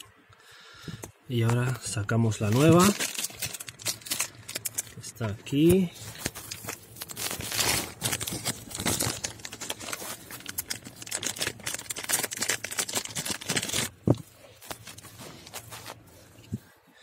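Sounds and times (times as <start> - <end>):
plastic bag crinkling: 1.7 - 16.2.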